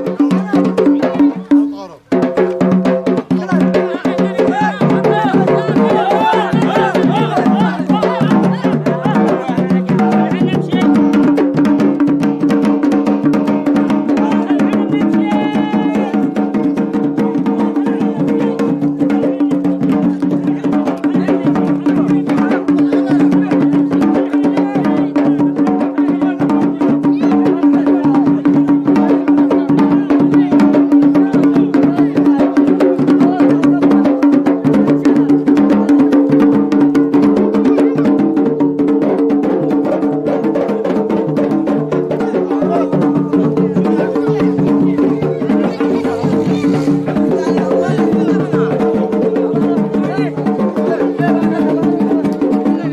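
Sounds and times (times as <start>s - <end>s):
fast drum beat: 0.0s - 52.9s.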